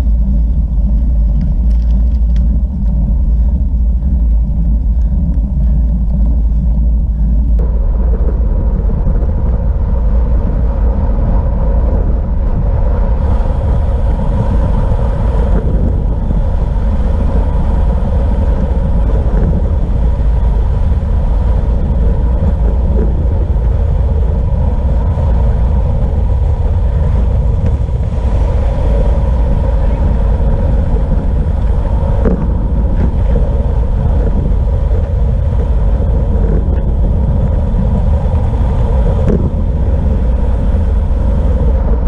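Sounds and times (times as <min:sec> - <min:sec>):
steady hum: 0:00.0 - 0:42.0
wind rumbling on microphone: 0:00.0 - 0:42.0.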